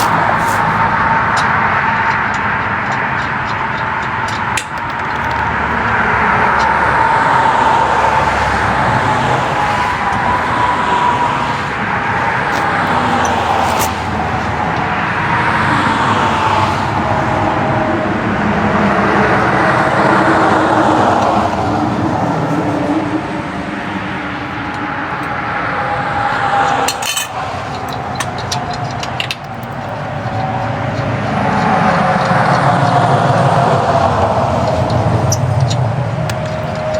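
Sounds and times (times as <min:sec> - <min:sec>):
vehicles passing: 0:00.0 - 0:36.9.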